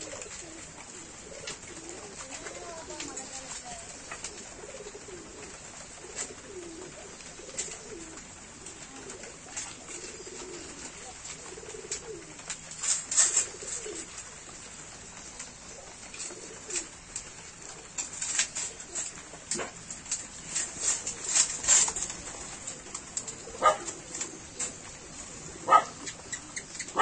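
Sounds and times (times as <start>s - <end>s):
soft low cooing calls: 0.0s - 27.0s.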